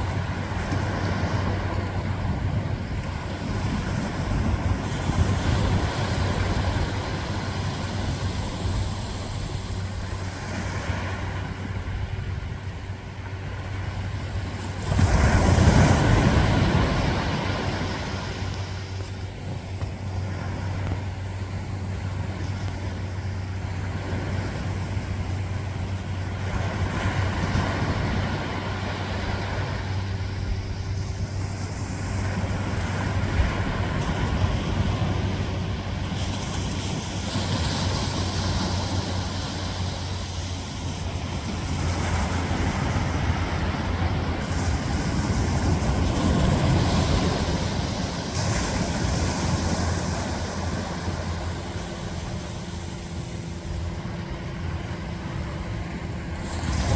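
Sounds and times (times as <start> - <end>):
ocean surf washing onto beach: 0.0 - 56.9
steady low hum: 0.0 - 56.9.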